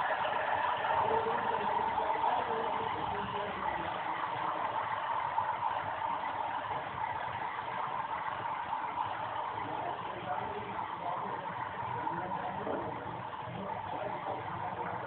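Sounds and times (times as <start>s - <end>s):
jet engines running at low power: 0.0s - 15.0s.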